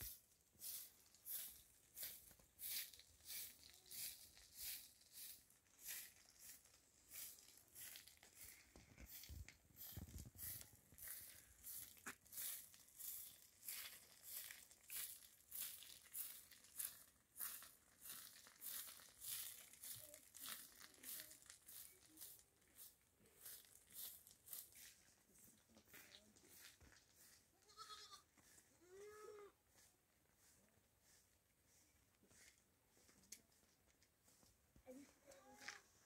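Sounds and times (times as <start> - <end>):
faint scuffing footsteps: 0.0 - 20.6, 22.2 - 36.0.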